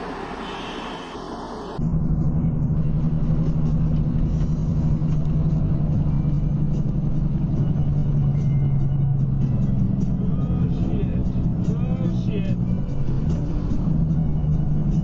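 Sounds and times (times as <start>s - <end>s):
faint city traffic: 0.0s - 15.0s
vehicle engine drone and road rumble: 0.0s - 15.0s.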